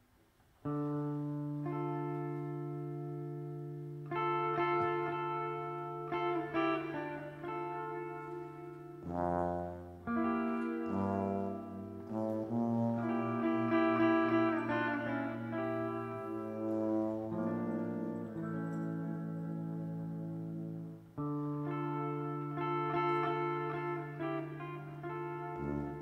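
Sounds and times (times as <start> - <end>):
guitar chords: 0.6 - 26.0
tuba low notes: 0.6 - 26.0.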